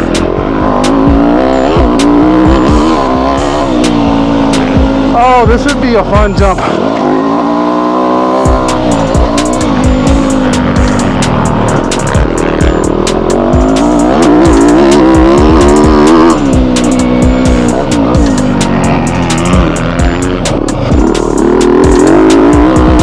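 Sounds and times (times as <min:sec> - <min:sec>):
background music with beat: 0:00.0 - 0:06.7, 0:08.3 - 0:23.0
dirt bike engine revving: 0:00.0 - 0:23.0.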